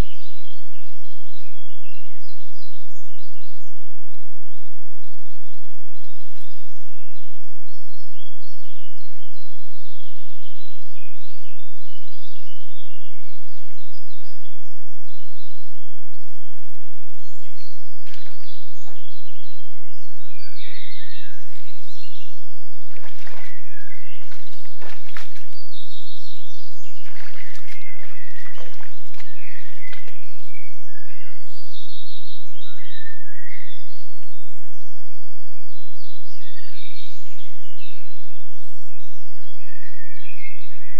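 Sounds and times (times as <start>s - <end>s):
small birds chirping: 6.0s - 40.9s.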